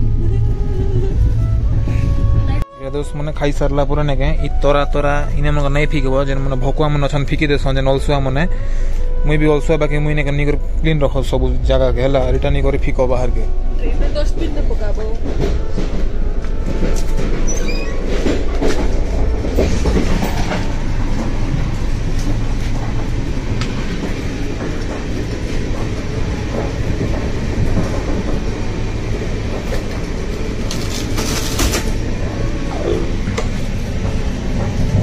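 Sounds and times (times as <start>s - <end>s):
train carriage rumble: 0.0s - 35.0s.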